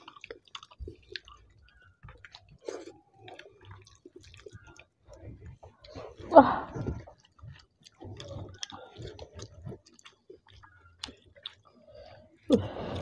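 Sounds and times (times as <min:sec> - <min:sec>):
close chewing and lip smacks: 0:00.0 - 0:13.0.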